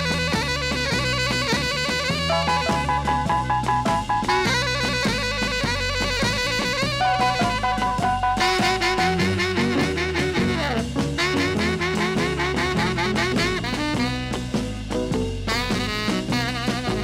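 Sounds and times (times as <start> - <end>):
swing jazz music: 0.0 - 17.0.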